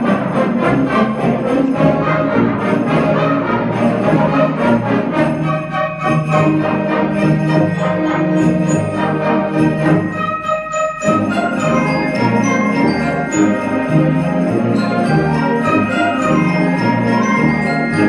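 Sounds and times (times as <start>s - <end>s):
sleigh bells jingling: 0.0s - 18.0s.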